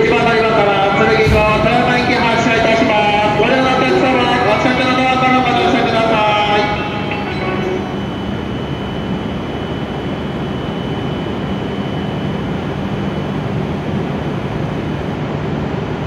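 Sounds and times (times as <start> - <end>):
faint high whine: 0.0 - 16.0
train equipment humming: 0.0 - 16.0.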